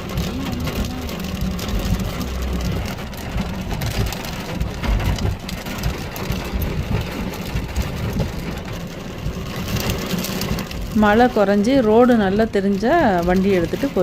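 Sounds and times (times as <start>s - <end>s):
heavy rain on car: 0.0s - 14.0s
low rumble: 0.0s - 14.0s.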